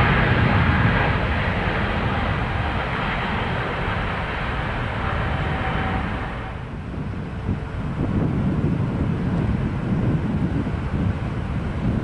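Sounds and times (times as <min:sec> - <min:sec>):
jet engine roaring with whine: 0:00.0 - 0:12.0
wind buffeting microphone: 0:00.0 - 0:12.0.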